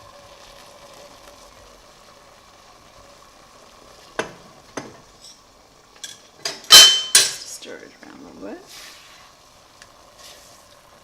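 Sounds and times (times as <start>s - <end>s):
stock simmering hiss: 0.0s - 11.0s.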